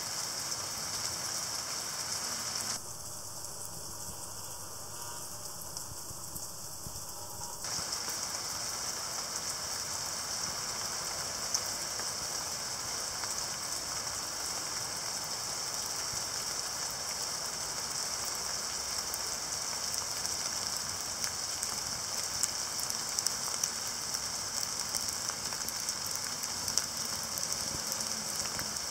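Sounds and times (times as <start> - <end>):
steady rain hissing: 0.0 - 28.9.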